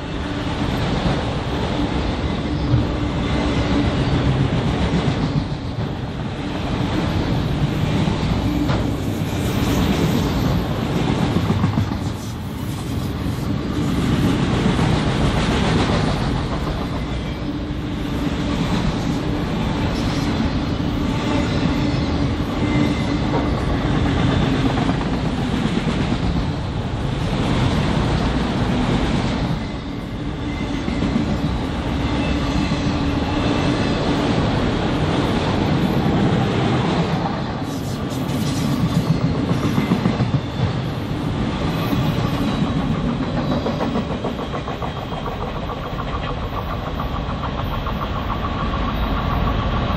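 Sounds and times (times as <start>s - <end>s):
freight train cars rolling: 0.0s - 49.9s.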